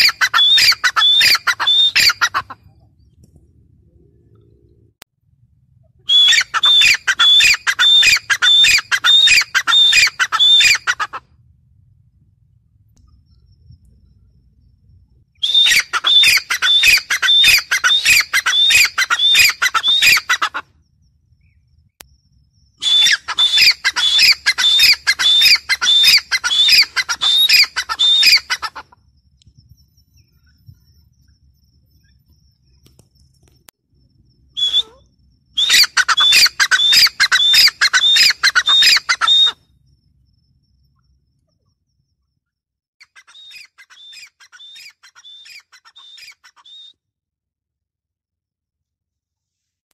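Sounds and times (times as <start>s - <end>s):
francolin calling: 0.0s - 3.1s, 5.8s - 11.2s, 13.0s - 42.4s, 43.0s - 46.9s.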